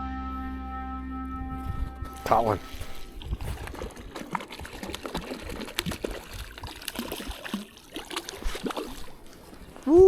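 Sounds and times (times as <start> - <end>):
water splashing and trickling: 1.5 - 10.0.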